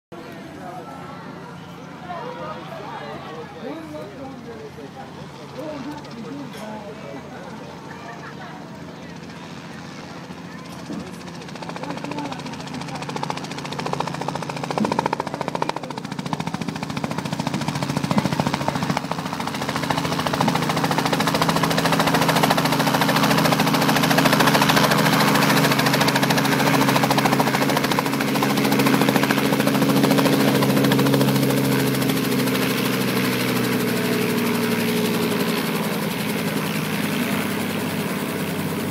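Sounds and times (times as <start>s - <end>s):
helicopter rotor and engine: 0.2s - 38.9s.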